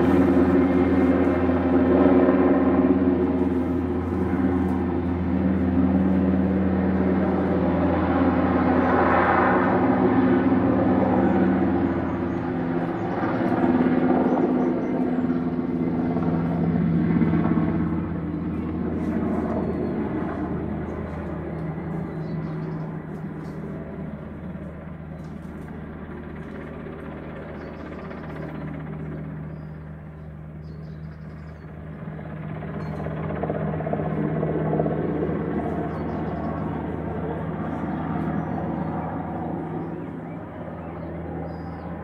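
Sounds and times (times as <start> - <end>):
helicopter rotors droning: 0.0 - 42.0.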